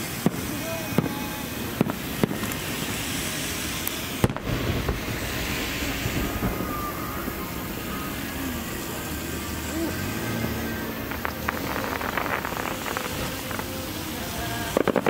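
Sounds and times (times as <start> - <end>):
firework crackling hiss: 0.0 - 15.0
firework shells bursting: 0.0 - 15.0.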